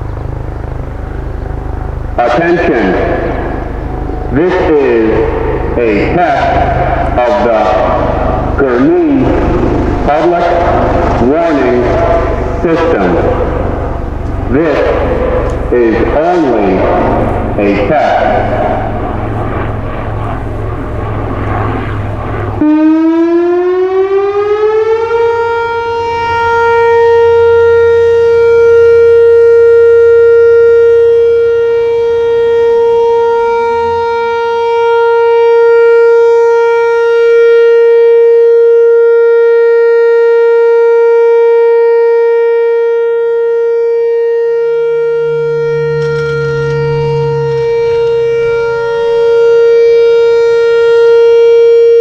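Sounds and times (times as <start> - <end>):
rising warning siren tone: 0.0 - 52.0.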